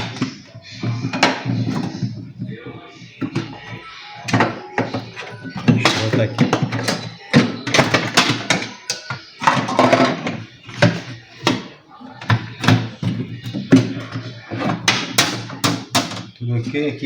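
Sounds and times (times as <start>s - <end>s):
objects knocking and clattering: 0.0s - 16.7s
background talking: 0.0s - 17.0s.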